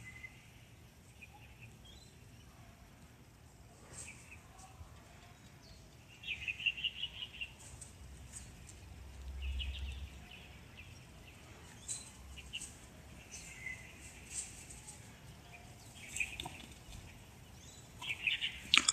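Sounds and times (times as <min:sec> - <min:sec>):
small bird chirping: 0:00.0 - 0:02.6, 0:03.9 - 0:18.9.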